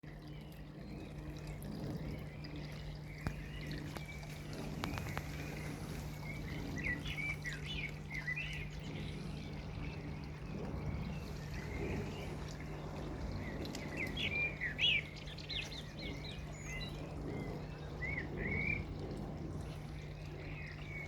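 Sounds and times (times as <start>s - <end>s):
rain falling on a pond: 0.0s - 21.0s
water trickling: 0.0s - 21.0s.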